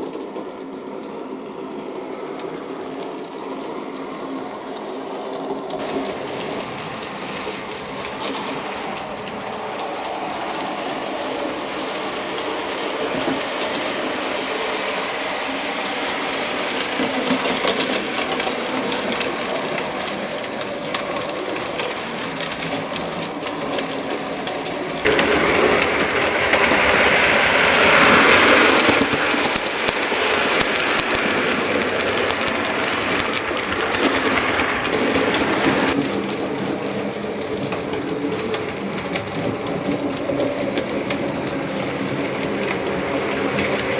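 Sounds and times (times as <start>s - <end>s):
model train motor humming: 0.0s - 43.9s
wheels clicking over rail joints: 0.0s - 43.9s.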